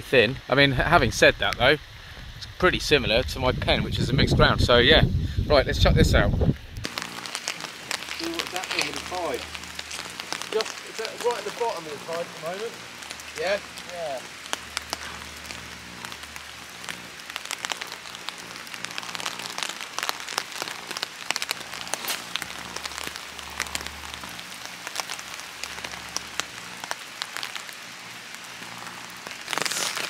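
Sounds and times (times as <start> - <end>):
raindrops ticking close by: 0.0 - 3.8, 6.8 - 30.0
steady rain falling: 0.0 - 5.9, 6.5 - 30.0.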